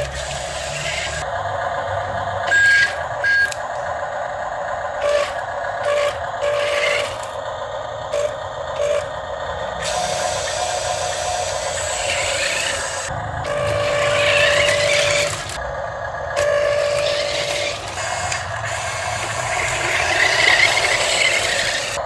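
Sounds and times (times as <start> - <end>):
electric gear motors whirring: 0.0 - 22.0.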